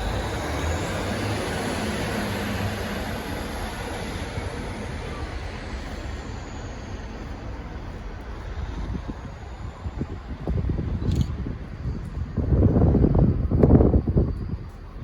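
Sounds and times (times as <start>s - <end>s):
faint high whine: 0.0s - 15.0s
train running past: 0.0s - 15.0s.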